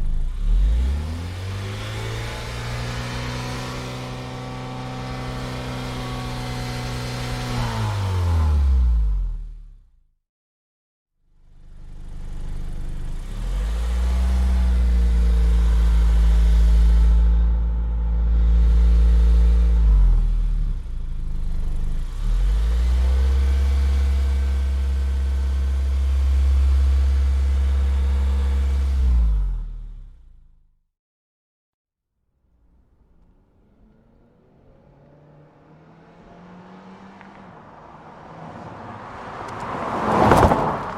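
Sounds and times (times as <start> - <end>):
car engine revving: 0.0 - 9.8, 12.0 - 30.6, 32.5 - 40.9.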